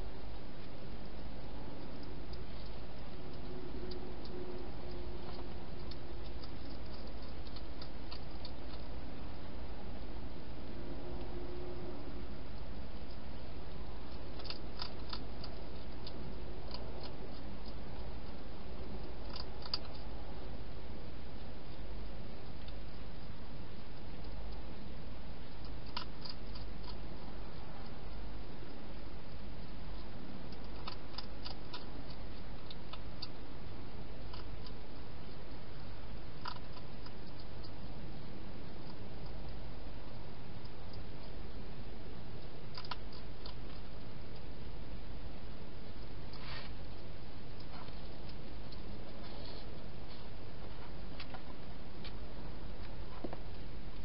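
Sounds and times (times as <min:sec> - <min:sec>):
hedgehog crunching food: 0:00.0 - 0:54.0
steady background hiss: 0:00.0 - 0:54.0.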